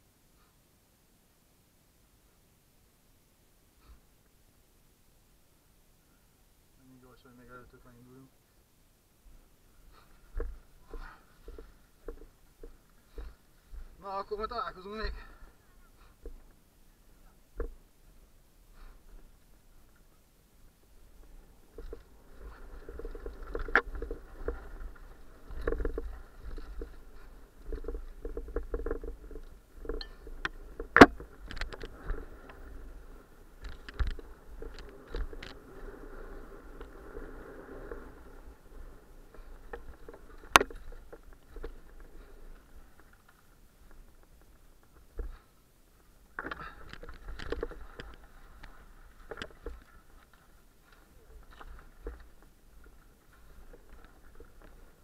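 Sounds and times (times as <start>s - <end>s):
bike rattling over rough ground: 9.3s - 55.0s.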